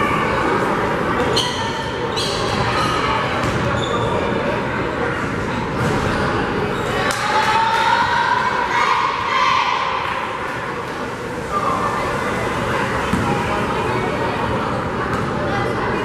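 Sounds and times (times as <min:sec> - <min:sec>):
crowd chatter echoing: 0:00.0 - 0:16.0.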